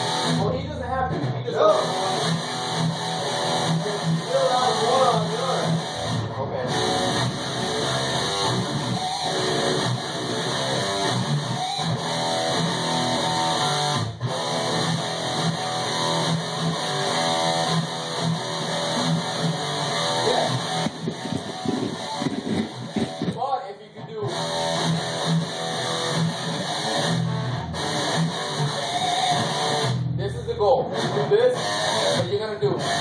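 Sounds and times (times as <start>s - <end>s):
electric guitar playing: 0.0s - 23.4s, 24.2s - 33.0s
bass guitar: 0.0s - 33.0s.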